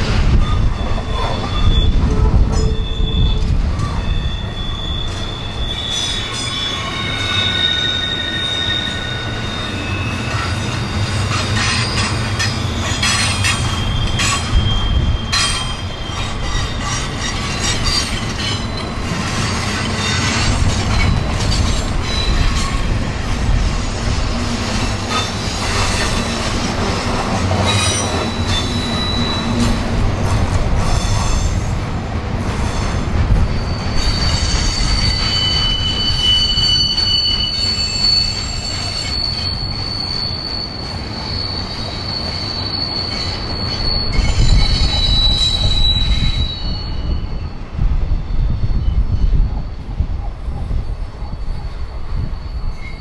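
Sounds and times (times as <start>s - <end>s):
clanks from train cars: 0.0s - 47.4s
train rumble: 0.0s - 53.0s
train wheels squealing on track: 0.0s - 53.0s.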